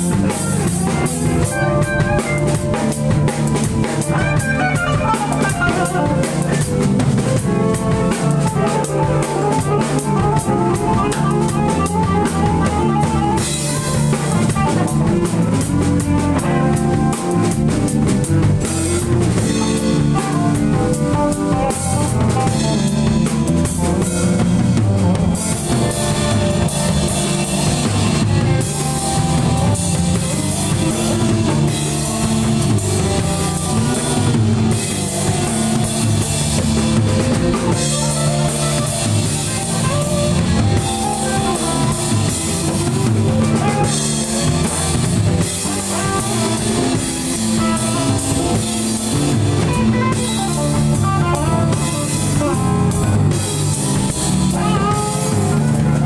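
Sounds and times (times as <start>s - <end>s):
drum kit beat: 0.0s - 56.0s
live rock band playing: 0.0s - 56.0s.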